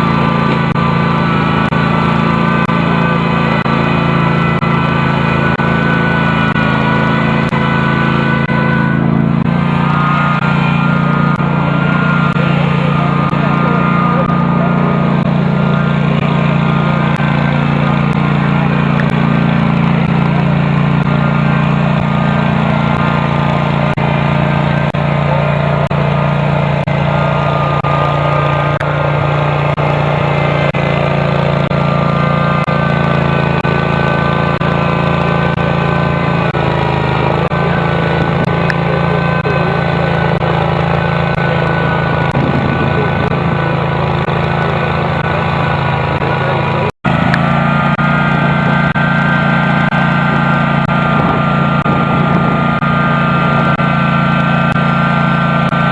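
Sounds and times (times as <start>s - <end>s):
garden tractor engine running: 0.0s - 55.9s.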